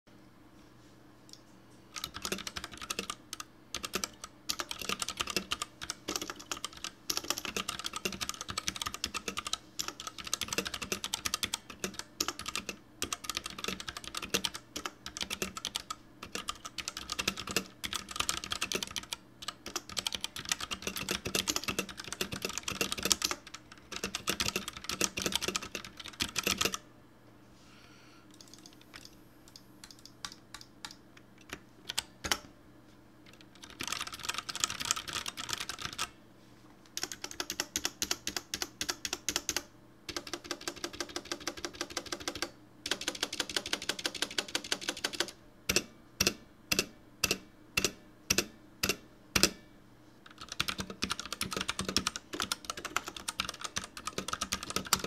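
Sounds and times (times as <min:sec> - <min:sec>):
faint steady hum: 0:00.1 - 0:55.0
mechanical keyboard typing: 0:01.9 - 0:26.8, 0:28.3 - 0:32.5, 0:33.3 - 0:36.1, 0:37.0 - 0:49.6, 0:50.3 - 0:55.0.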